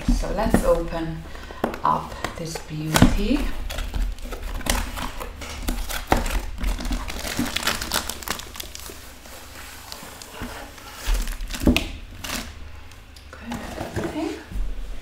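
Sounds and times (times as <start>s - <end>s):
plastic crinkling: 0.0s - 13.2s.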